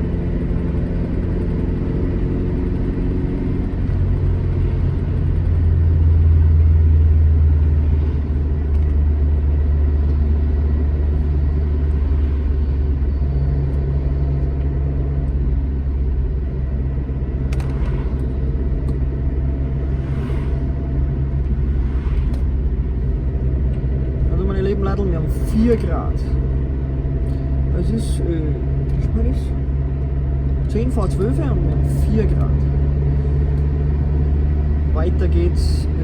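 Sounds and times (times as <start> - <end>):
car engine running while driving: 0.0 - 36.0
road noise: 0.0 - 36.0.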